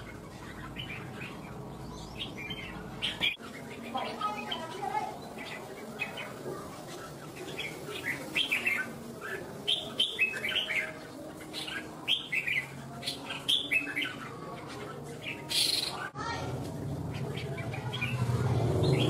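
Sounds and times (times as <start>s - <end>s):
bird chirping: 0.0s - 16.2s.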